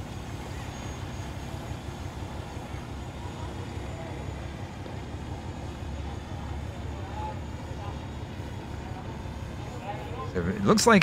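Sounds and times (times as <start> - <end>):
outdoor background noise: 0.0 - 11.0
vehicle engines idling: 0.0 - 11.0.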